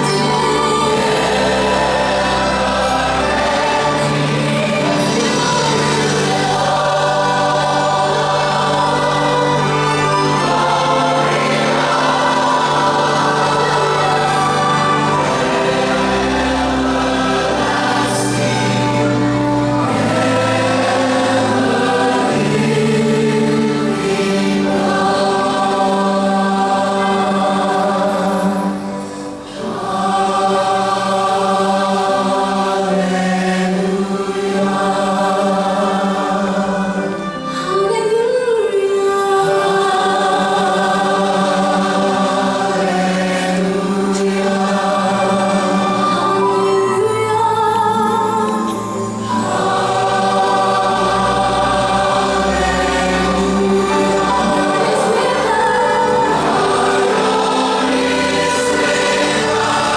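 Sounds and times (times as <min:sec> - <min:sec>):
choir singing gospel-style: 0:00.0 - 0:59.9
orchestral accompaniment: 0:00.0 - 0:59.9.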